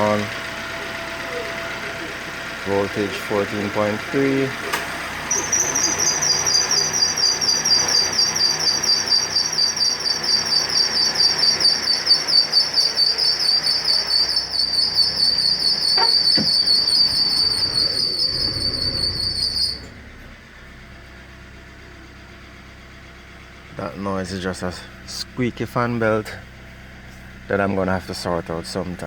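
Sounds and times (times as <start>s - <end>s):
fan belt squeaking: 0.0s - 20.3s, 23.7s - 29.0s
car engine idling: 0.0s - 29.0s.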